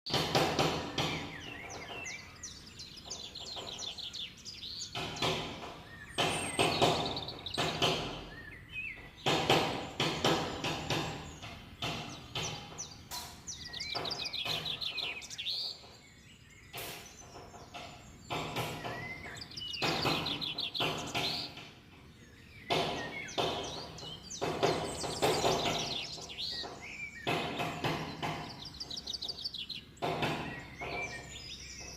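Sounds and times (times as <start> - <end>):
sharp knocks and clicks: 0.1 - 31.9
songbird trilling: 0.1 - 31.9.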